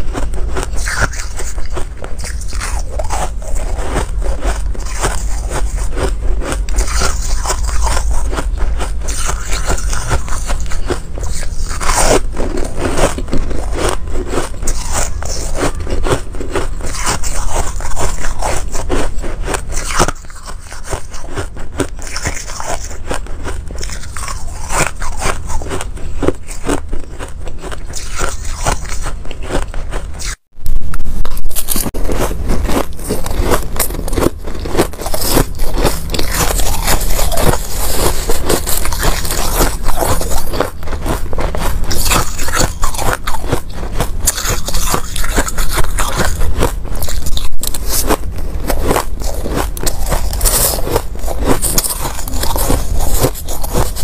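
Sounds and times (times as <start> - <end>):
ice being bitten and chewed: 0.0 - 54.0.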